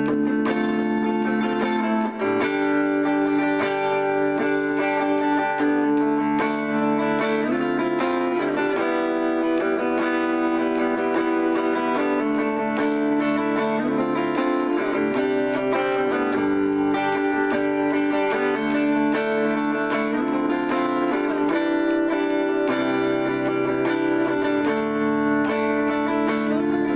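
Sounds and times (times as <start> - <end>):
clean electric guitar playing: 0.0 - 26.9.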